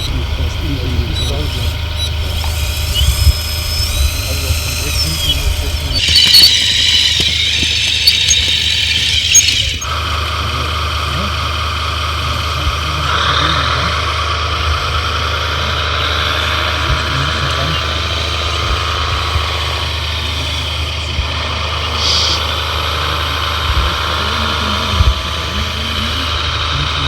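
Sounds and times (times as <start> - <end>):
electric motors whining: 0.0 - 27.0
low engine-like hum: 0.0 - 27.0.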